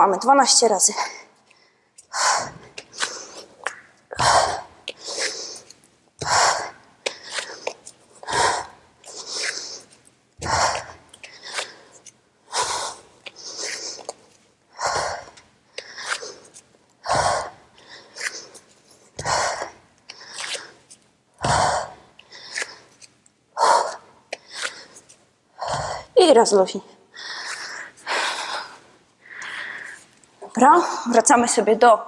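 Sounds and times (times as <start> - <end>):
woman breathing hard: 1.0 - 26.2, 27.1 - 30.1.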